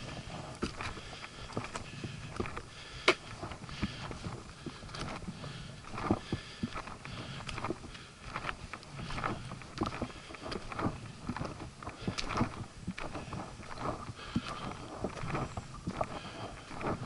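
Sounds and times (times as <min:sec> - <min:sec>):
footsteps on a trail: 0:00.0 - 0:17.0
rustling: 0:00.0 - 0:17.0.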